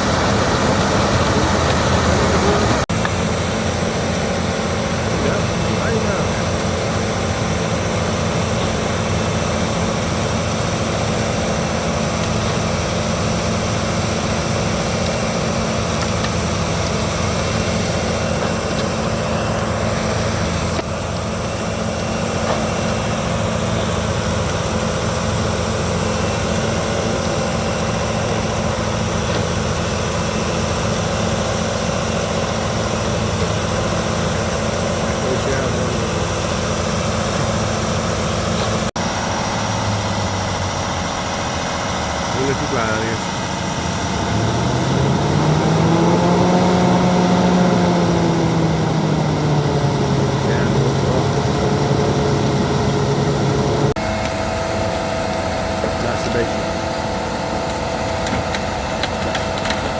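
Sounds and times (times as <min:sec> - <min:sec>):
wood chipper droning: 0:00.0 - 0:59.9.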